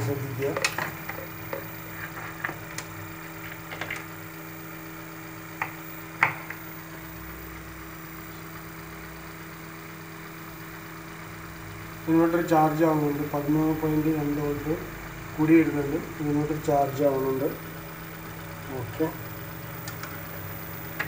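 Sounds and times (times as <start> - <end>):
inverter humming: 0.0 - 21.0.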